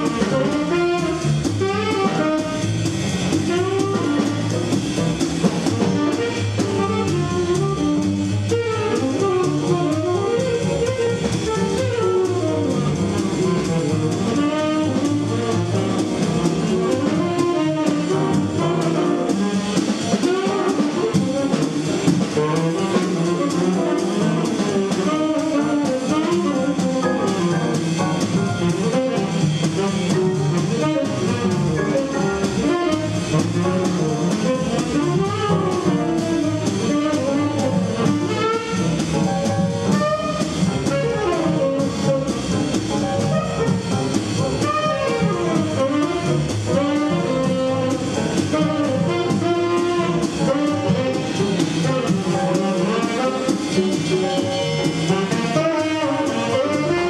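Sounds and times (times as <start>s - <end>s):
drum kit: 0.0s - 57.0s
piano: 0.0s - 57.0s
tenor saxophone blues line: 0.0s - 57.0s
upright bass: 0.0s - 57.0s.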